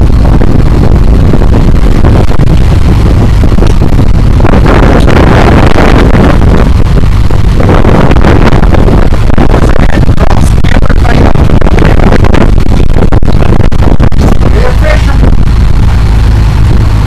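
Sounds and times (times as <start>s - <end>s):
boat engines droning: 0.0s - 17.0s
wind buffeting microphone: 0.0s - 17.0s.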